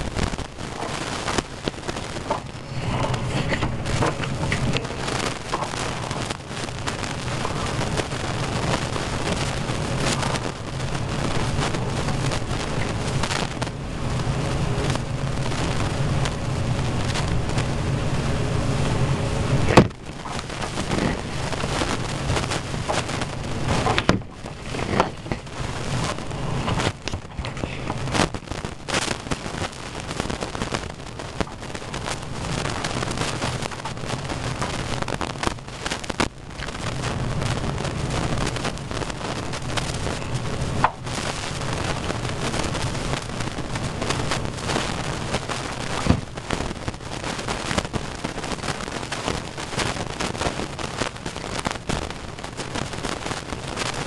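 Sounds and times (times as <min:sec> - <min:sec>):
steady rain hissing: 0:00.0 - 0:54.0.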